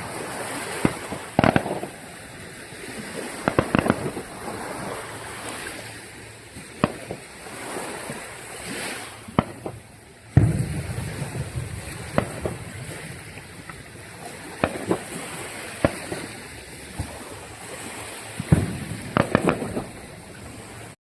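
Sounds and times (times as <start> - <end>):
distant fireworks pops and bangs: 0.0 - 5.8, 6.5 - 17.6, 18.2 - 21.0
surf rushing: 0.0 - 21.0
wind: 0.0 - 21.0.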